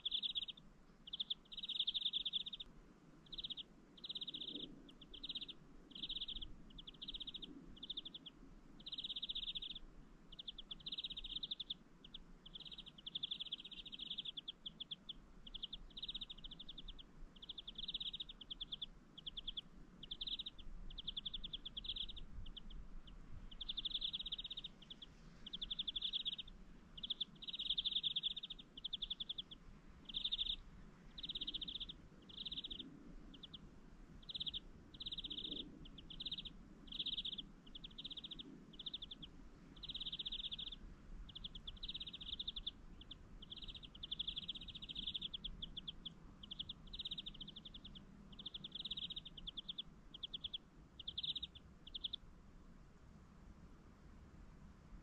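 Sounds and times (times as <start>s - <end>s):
small bird chirping trills: 0.0s - 52.4s.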